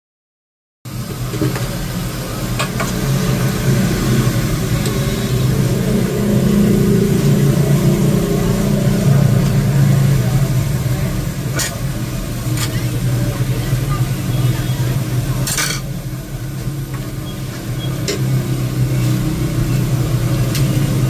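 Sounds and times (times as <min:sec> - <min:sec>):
low mechanical hum: 0:00.9 - 0:21.0.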